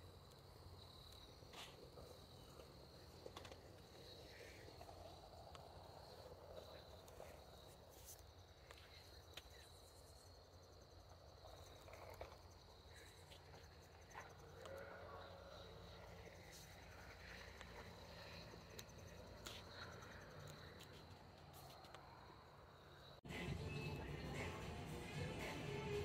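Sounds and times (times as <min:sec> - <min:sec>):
crickets trilling: 0:00.0 - 0:23.2.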